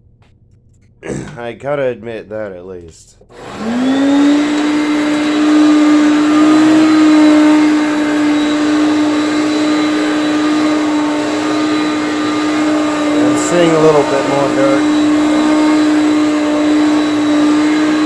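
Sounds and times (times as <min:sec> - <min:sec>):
upright vacuum cleaner running: 0:03.3 - 0:18.0.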